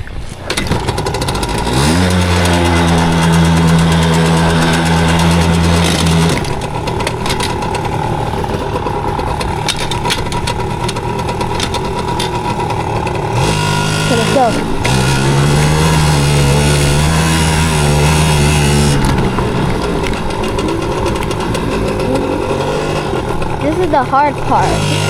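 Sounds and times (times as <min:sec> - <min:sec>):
two-stroke engine revving: 0:00.5 - 0:25.0.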